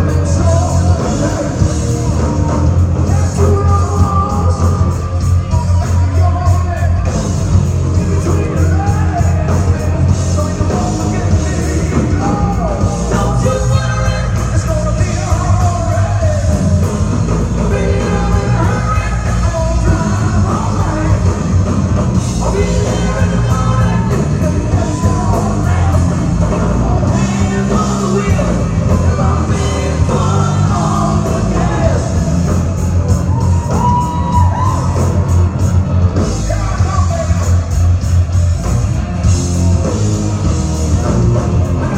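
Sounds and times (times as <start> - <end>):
lead singer singing: 0.0 - 38.0, 39.6 - 41.9
heavy bass and drums: 0.0 - 41.9
rock band playing live: 0.0 - 41.9.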